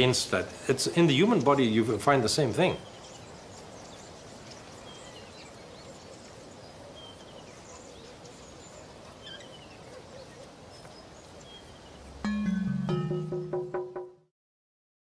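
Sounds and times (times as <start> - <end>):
faint steady hiss: 0.0 - 13.4.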